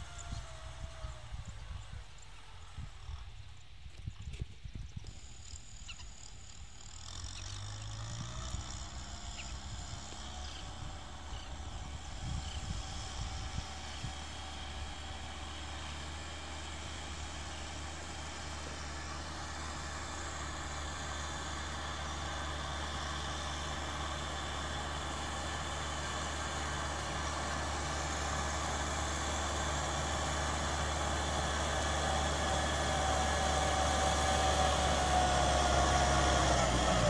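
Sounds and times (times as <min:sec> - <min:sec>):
tractor diesel engine running: 0:00.0 - 0:04.0, 0:04.7 - 0:37.0.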